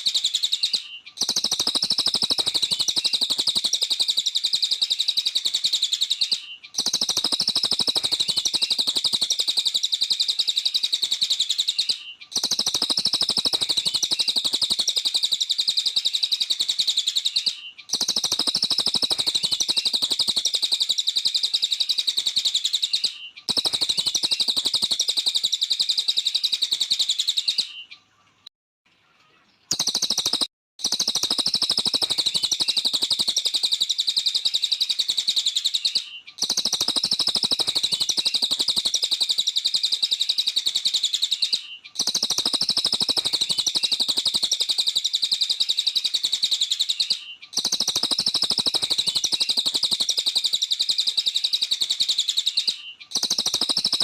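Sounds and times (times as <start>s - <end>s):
songbird twittering: 0.0s - 28.5s, 29.1s - 54.0s.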